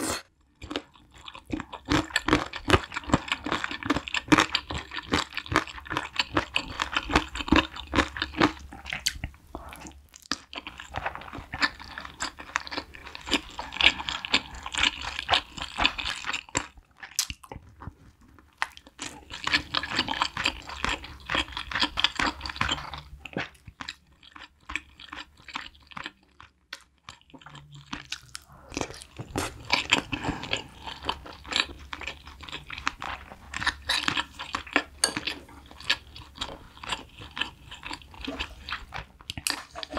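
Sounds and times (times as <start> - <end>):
chewing and crunching cartilage: 0.3 - 39.9.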